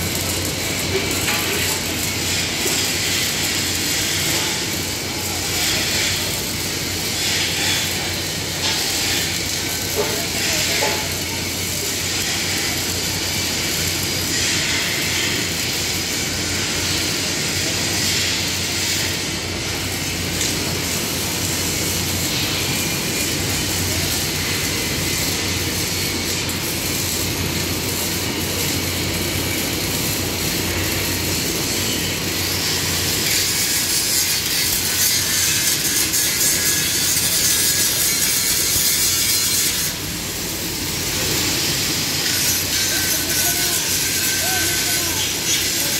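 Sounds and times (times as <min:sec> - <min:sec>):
angle grinder on steel: 0:00.0 - 0:45.9
welding arc hissing: 0:00.0 - 0:45.9.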